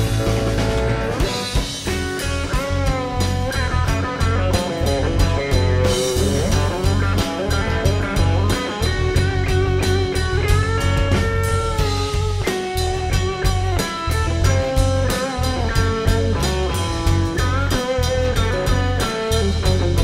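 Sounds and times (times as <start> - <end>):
bass guitar: 0.0 - 20.0
drum kit beat: 0.0 - 20.0
electric lead guitar bending notes: 0.0 - 20.0.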